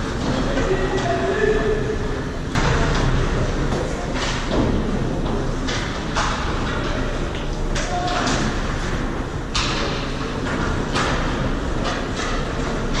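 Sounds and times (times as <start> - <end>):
low rink rumble: 0.0 - 13.0.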